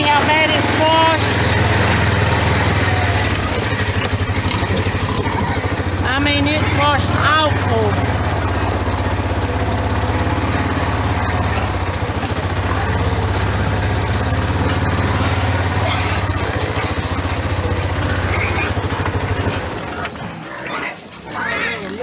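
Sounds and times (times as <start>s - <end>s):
engine running: 0.0s - 21.3s.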